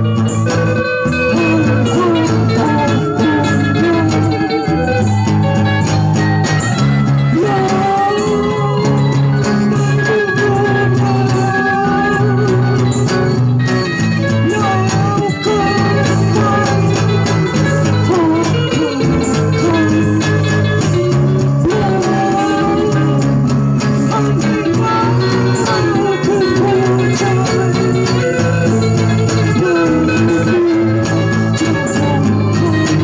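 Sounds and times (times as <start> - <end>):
guitar accompaniment: 0.0 - 33.0
steady bass line: 0.0 - 33.0
wavering melody line: 0.0 - 33.0.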